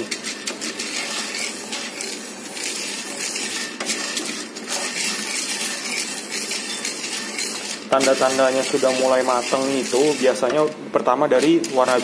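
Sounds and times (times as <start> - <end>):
coffee beans rattling in a pan: 0.0 - 10.8, 11.4 - 12.0.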